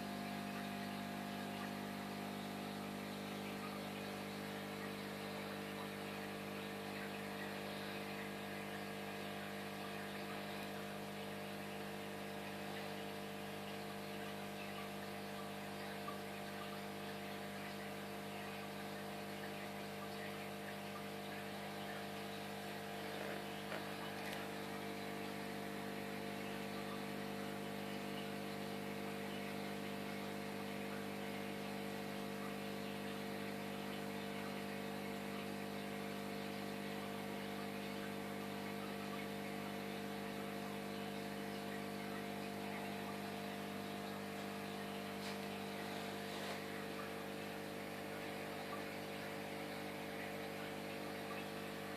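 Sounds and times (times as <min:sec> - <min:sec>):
air bubbles hissing: 0:00.0 - 0:51.9
aquarium pump hum: 0:00.0 - 0:51.9.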